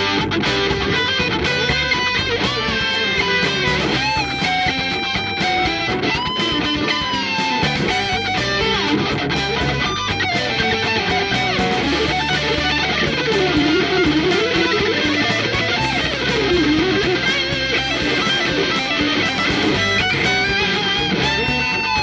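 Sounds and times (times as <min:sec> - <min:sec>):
backing sustained notes and beat: 0:00.0 - 0:22.0
electric guitar lead with vibrato: 0:00.0 - 0:22.0.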